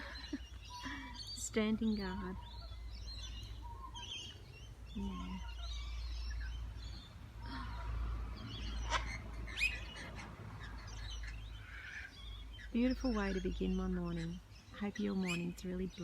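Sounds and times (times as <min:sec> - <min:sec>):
parrots chattering and calling: 0:00.0 - 0:16.0.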